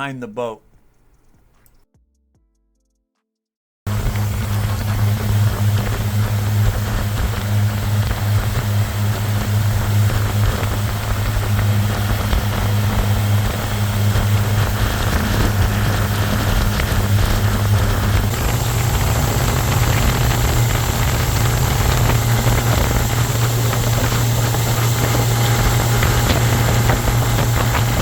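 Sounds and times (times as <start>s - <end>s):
boat motor humming: 3.9s - 28.0s.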